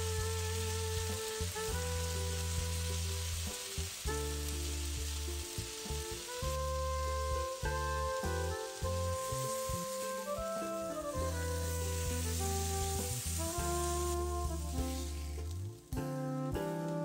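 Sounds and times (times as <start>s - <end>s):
paneer sizzling in a pan: 0.0s - 16.9s
background music of held chords: 0.0s - 17.0s.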